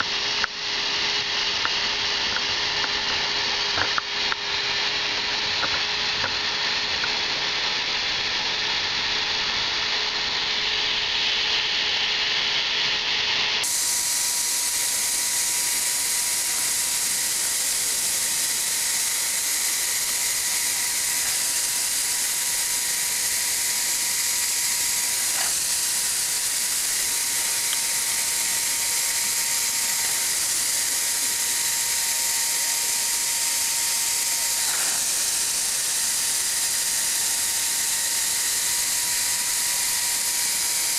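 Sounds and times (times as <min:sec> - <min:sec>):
hot air gun blower hiss: 0:00.0 - 0:40.9
motor whine: 0:00.0 - 0:40.9.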